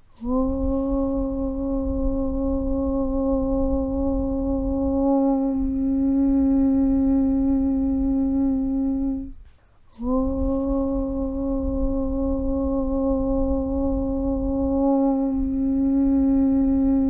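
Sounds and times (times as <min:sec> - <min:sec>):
person chanting one long note: 0:00.1 - 0:09.4, 0:10.0 - 0:17.0
low rumble: 0:00.2 - 0:17.0.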